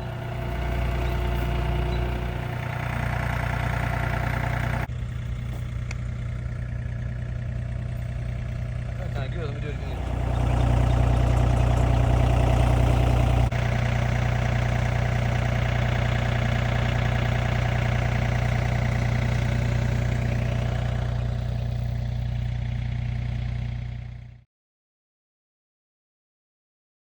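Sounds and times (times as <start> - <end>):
engine running with low hum: 0.0 - 24.5.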